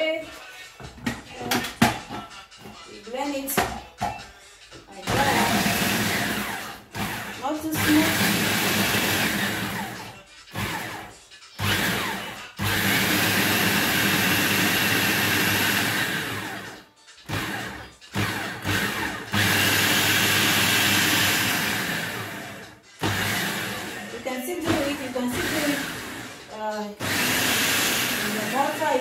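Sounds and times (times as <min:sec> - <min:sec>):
blender chopping vegetables: 0:05.1 - 0:29.0.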